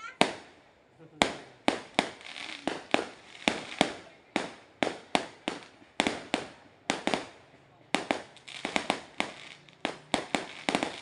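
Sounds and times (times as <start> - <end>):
fireworks bangs: 0.0 - 11.0
fireworks crackling hiss: 0.0 - 11.0.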